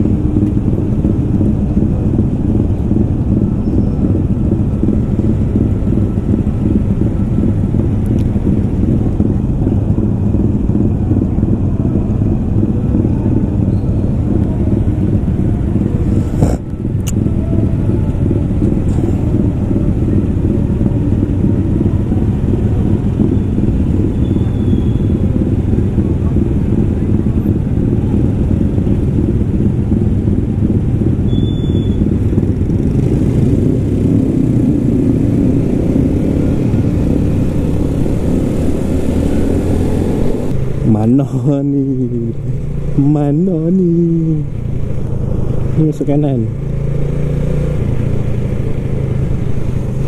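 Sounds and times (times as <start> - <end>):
motorcycle engines idling: 0.0 - 50.0.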